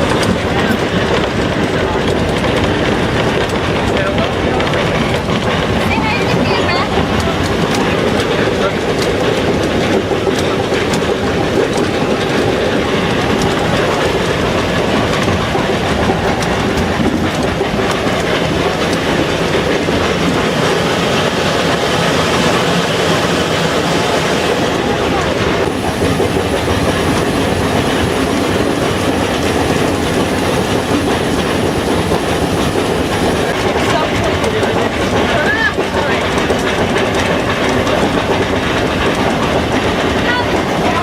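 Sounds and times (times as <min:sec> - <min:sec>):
cog railway train rumbling and clattering: 0:00.0 - 0:41.0.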